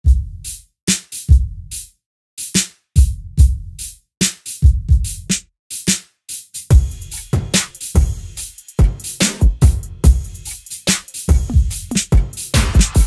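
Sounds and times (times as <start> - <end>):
drum machine kick drum: 0.0 - 6.0, 6.6 - 13.0
snare and hi-hat strikes: 0.0 - 13.0.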